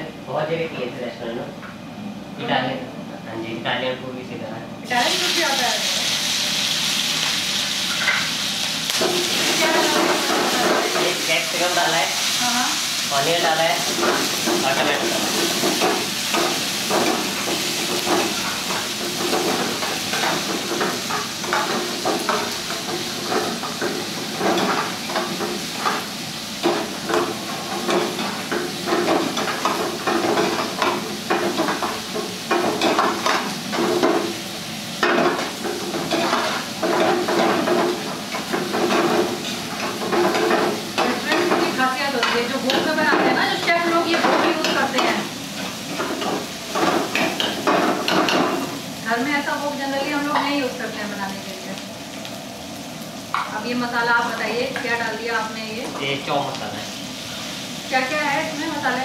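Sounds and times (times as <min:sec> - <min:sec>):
vegetables sizzling in hot oil: 0:04.8 - 0:59.0.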